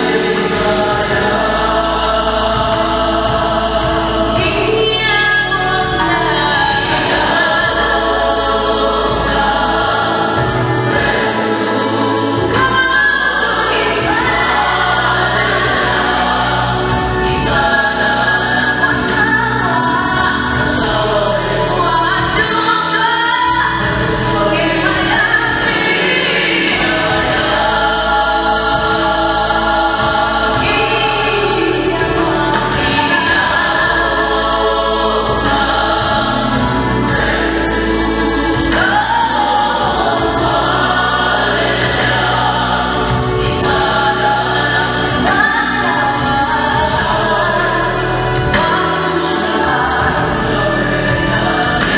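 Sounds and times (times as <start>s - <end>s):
deep bass: 0.0s - 51.9s
vocal group singing in harmony: 0.0s - 51.9s.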